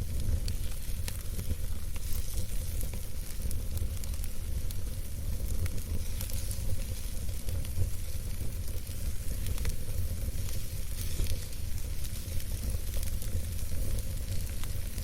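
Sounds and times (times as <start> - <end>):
campfire crackling and popping: 0.0 - 15.0
fire low rumble: 0.0 - 15.0.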